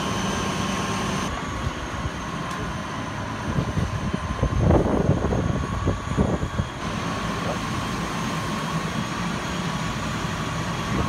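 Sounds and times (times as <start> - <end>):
fire engine engine running: 0.0 - 11.0.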